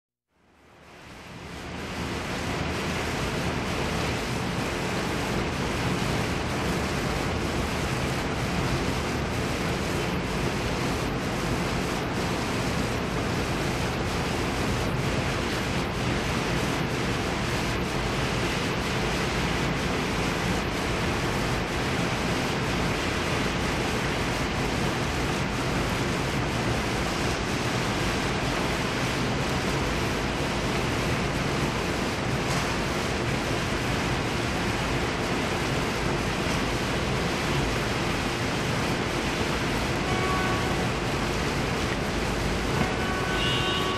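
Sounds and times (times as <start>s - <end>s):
rain hissing: 0.8s - 43.9s.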